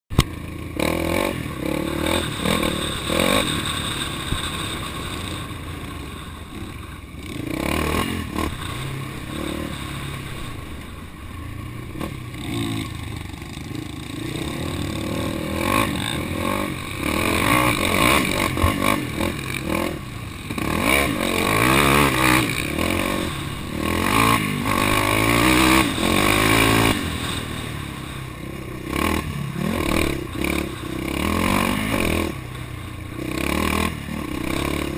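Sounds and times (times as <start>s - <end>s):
off-road vehicle engine revving: 0.2s - 34.9s.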